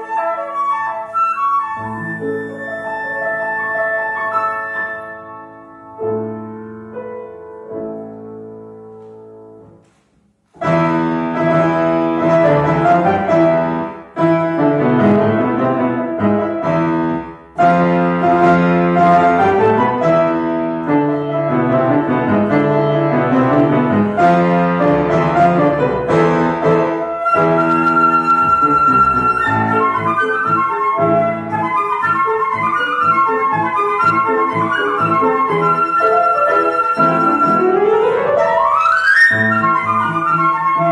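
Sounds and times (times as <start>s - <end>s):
grand piano playing: 0.0s - 40.9s.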